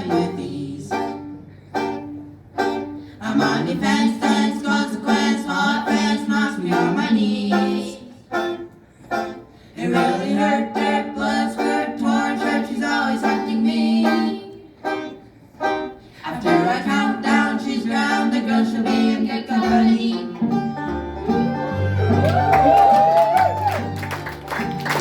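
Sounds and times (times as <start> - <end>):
string band playing: 0.0 - 25.0.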